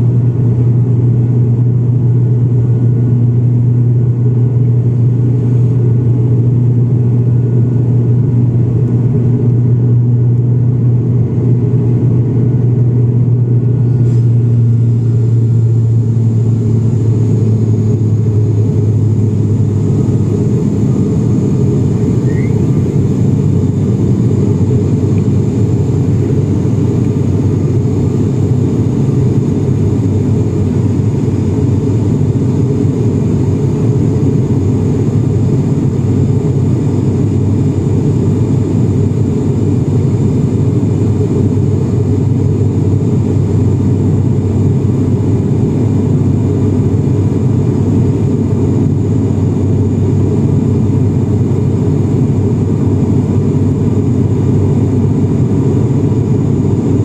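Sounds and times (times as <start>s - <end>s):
turboprop engine drone in cabin: 0.0s - 57.0s.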